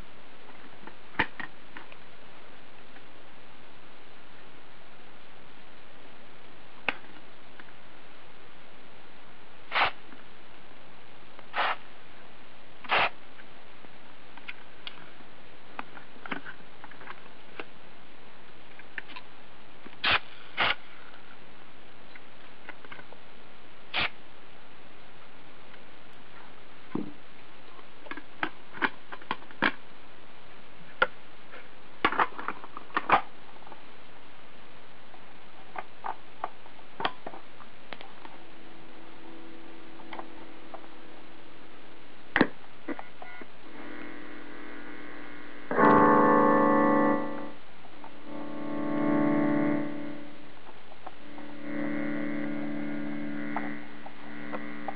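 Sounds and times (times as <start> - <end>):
faint steady hiss: 0.0 - 54.9.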